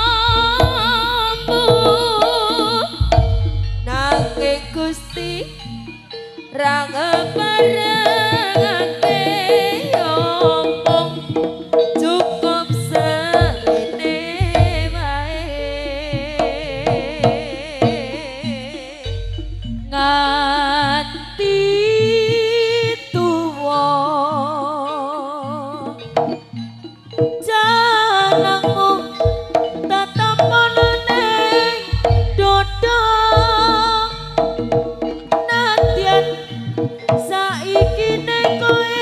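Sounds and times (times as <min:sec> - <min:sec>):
steady drumming: 0:00.0 - 0:21.6, 0:28.2 - 0:39.0
trilling melodic lead: 0:00.0 - 0:39.0.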